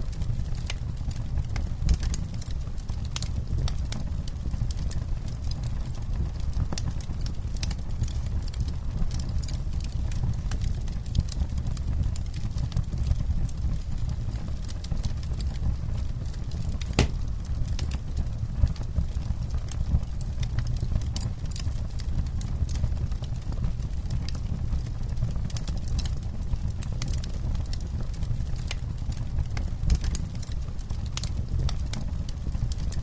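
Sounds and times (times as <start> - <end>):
campfire crackles and pops: 0.0 - 33.0
low fire rumble: 0.0 - 33.0.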